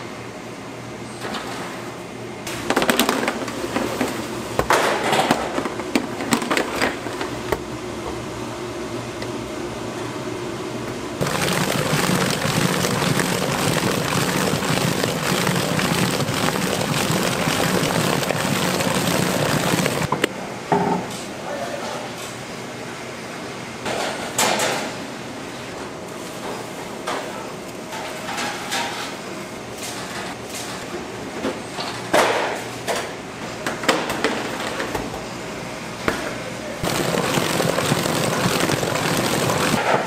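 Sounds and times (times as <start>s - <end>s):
machine noise with low hum: 0.0s - 40.0s.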